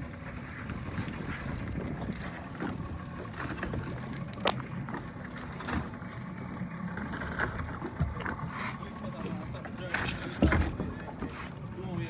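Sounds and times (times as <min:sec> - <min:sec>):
boat motor running: 0:00.0 - 0:12.0
water noise: 0:00.0 - 0:12.0
wind: 0:00.0 - 0:12.0.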